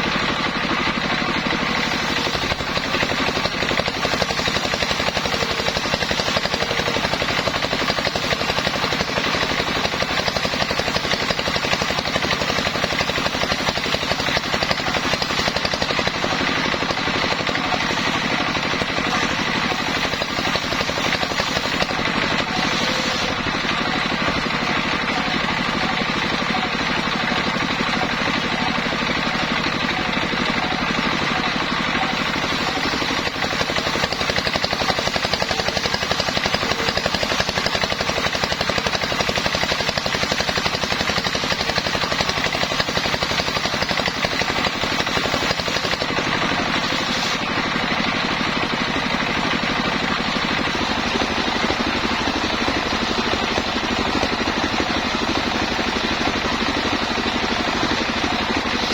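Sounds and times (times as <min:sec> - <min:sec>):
sawmill engine and saw running: 0:00.0 - 0:58.9.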